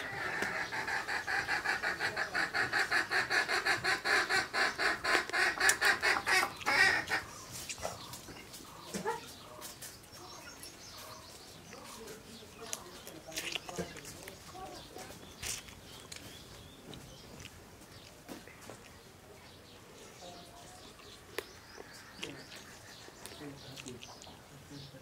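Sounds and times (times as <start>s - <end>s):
chicken clucking: 0.0s - 24.4s.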